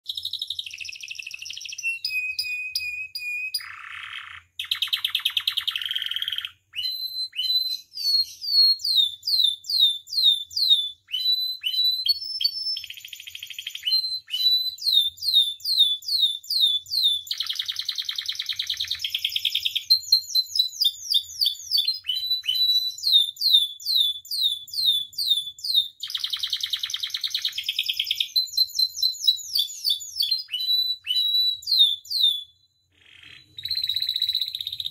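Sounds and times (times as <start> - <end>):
canary singing: 0.1 - 34.9.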